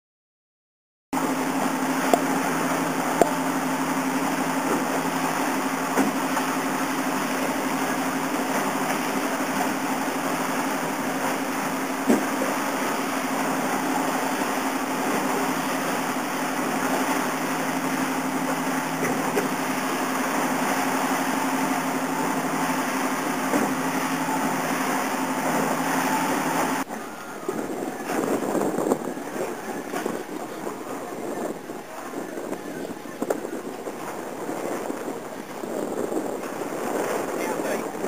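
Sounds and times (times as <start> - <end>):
boat engine droning: 1.2 - 38.0
wind and water noise: 1.2 - 38.0.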